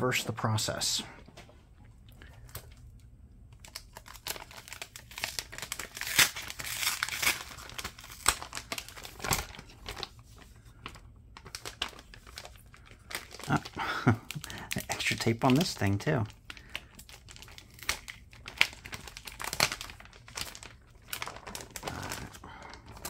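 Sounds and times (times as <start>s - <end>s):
plastic bag crinkling: 2.2s - 23.0s.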